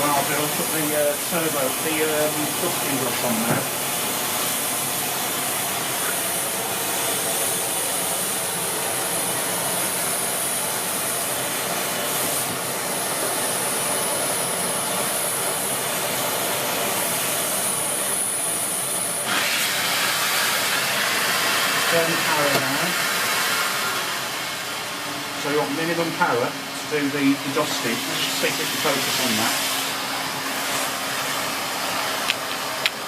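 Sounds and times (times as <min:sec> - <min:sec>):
vacuum cleaner whistling: 0:00.0 - 0:25.0, 0:27.0 - 0:32.8.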